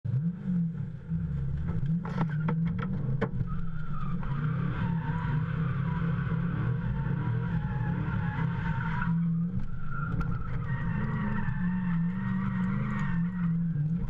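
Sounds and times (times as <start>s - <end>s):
car engine running hard: 0.1s - 14.0s.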